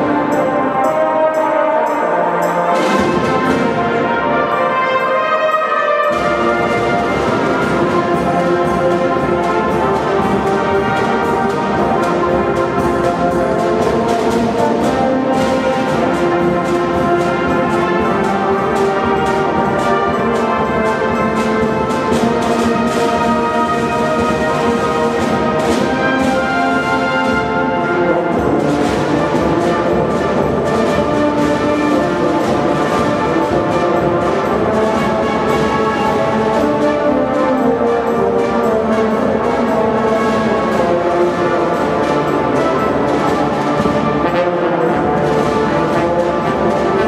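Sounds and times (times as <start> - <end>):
brass instruments playing melody: 0.0 - 47.0
snare drums: 0.0 - 47.0.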